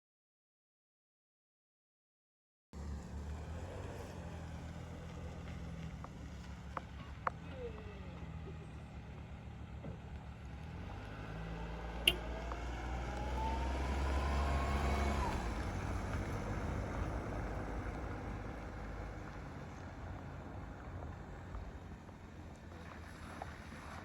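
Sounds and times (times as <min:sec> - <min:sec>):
vehicle engine rumbling: 0:02.8 - 0:24.0.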